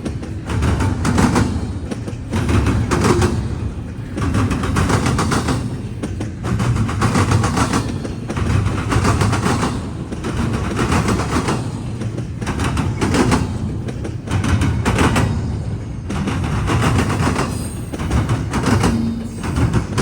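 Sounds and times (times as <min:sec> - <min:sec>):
train wheels clattering over crossing: 0:00.0 - 0:20.0.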